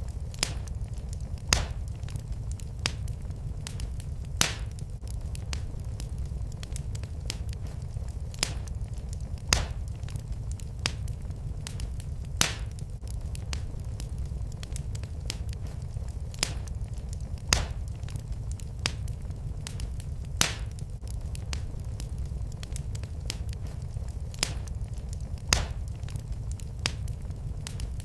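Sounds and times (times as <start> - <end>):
fire pops and snaps: 0.0 - 28.0
low rumble: 0.0 - 28.0
wood fire crackling: 0.0 - 28.0.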